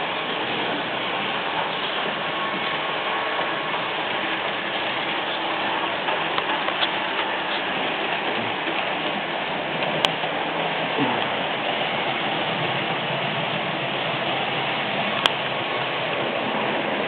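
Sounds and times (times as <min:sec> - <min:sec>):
model train rattling on track: 0:00.0 - 0:17.0.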